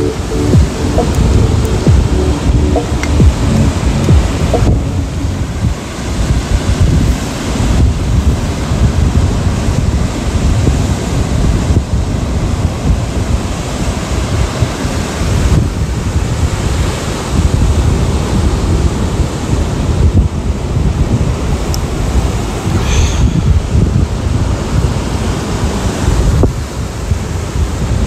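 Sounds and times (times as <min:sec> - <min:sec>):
sea surf washing: 0:00.0 - 0:28.0
wind buffeting microphone: 0:00.0 - 0:28.0.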